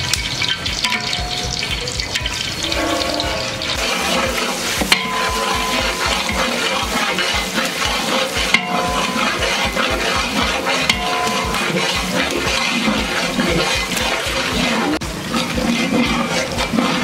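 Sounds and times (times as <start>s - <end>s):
ladle stirring and scraping: 0.0s - 17.0s
onions sizzling in hot oil: 0.0s - 17.0s.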